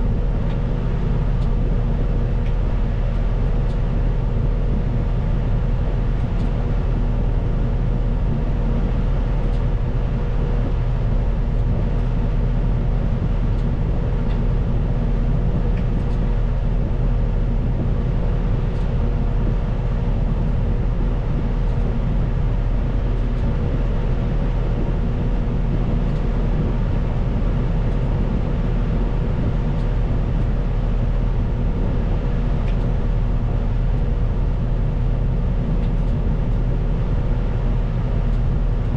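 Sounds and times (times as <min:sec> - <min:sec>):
thin steady whine: 0:00.0 - 0:38.9.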